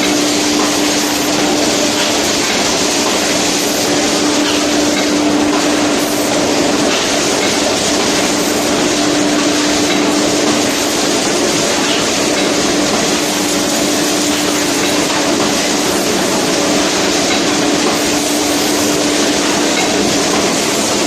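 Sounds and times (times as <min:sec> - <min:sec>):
machine running with hum: 0:00.0 - 0:21.0.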